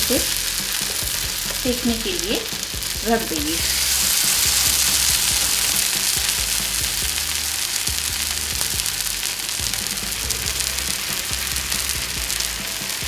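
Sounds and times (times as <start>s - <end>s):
bread sizzling in a pan: 0.0s - 13.0s
low background music: 0.0s - 13.0s.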